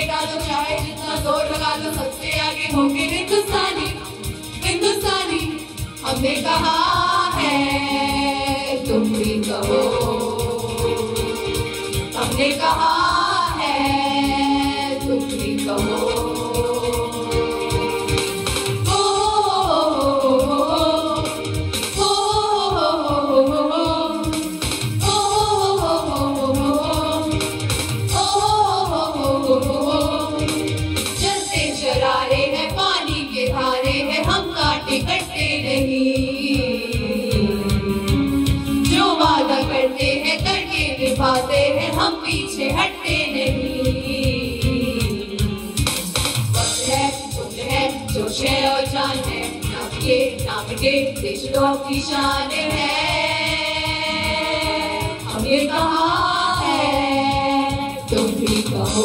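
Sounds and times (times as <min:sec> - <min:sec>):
girls singing together: 0:00.0 - 0:04.0, 0:06.1 - 0:11.3, 0:12.2 - 0:18.0, 0:18.9 - 0:21.4, 0:22.0 - 0:24.4, 0:25.0 - 0:27.5, 0:28.1 - 0:30.6, 0:31.2 - 0:37.5, 0:38.9 - 0:45.2, 0:46.6 - 0:59.0
steady beat: 0:03.5 - 0:59.0.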